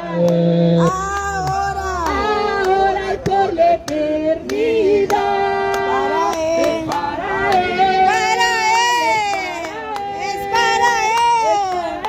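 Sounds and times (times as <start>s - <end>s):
woman singing through loudspeaker: 0.0s - 12.0s.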